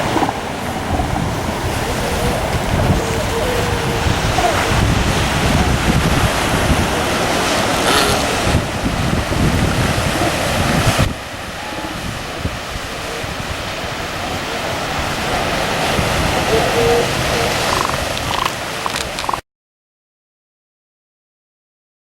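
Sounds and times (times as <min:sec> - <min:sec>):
surf washing: 0:00.0 - 0:19.4
wind buffeting microphone: 0:00.0 - 0:19.4.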